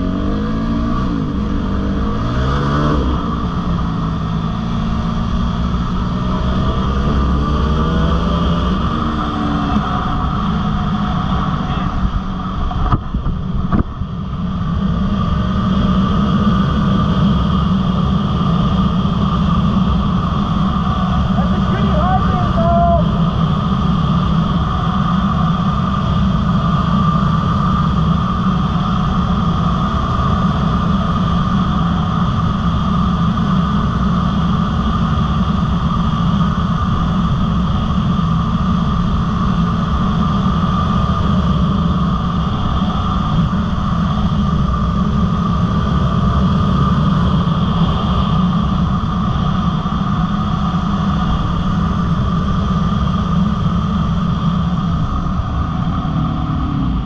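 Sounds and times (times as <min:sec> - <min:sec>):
dirt bike engine running: 0:00.0 - 0:57.0
wind buffeting microphone: 0:00.0 - 0:57.0.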